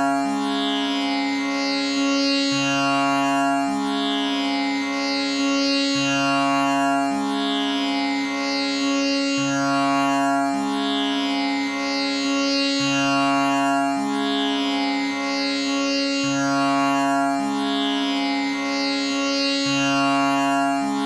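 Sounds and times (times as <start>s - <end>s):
tanpura drone: 0.0s - 21.0s.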